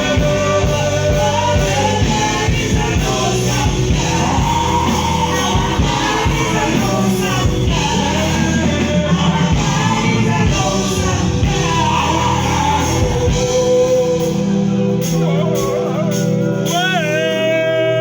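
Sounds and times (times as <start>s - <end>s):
loud amplified music: 0.0s - 18.0s
person singing: 0.0s - 18.0s.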